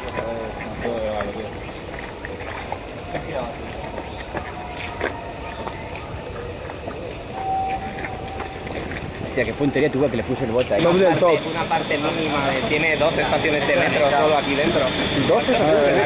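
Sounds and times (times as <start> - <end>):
cicadas buzzing: 0.0 - 16.0
faint voices: 0.0 - 16.0.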